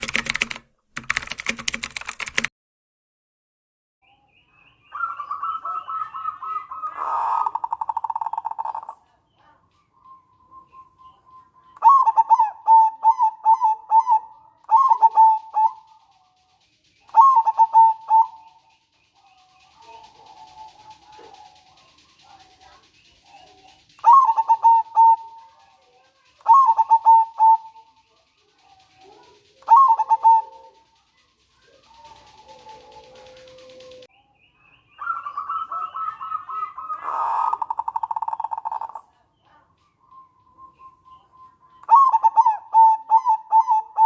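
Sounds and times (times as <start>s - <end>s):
dove rattling trill: 0.0s - 2.5s, 4.9s - 34.1s, 34.8s - 44.0s
dove stuttering coo notes: 4.9s - 34.1s, 35.0s - 44.0s.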